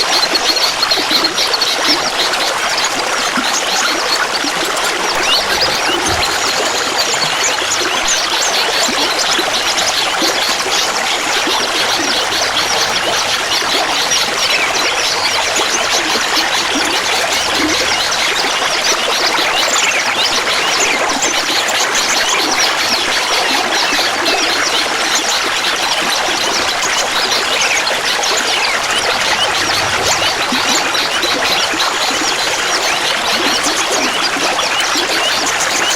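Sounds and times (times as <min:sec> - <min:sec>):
water trickling and gurgling: 0:00.0 - 0:35.9.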